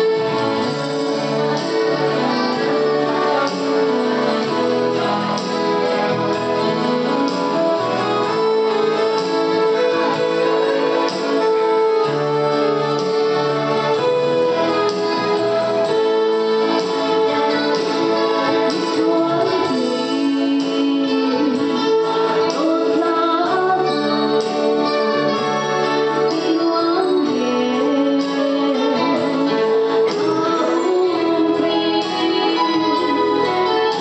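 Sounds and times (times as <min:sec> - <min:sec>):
keyboard playing: 0:00.0 - 0:34.0
live band instrumental music: 0:00.0 - 0:34.0.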